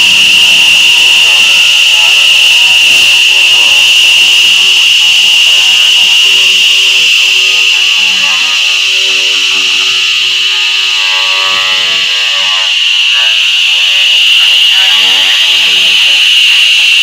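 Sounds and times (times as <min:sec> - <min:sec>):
laser cleaner high-pitched buzz: 0:00.0 - 0:17.0.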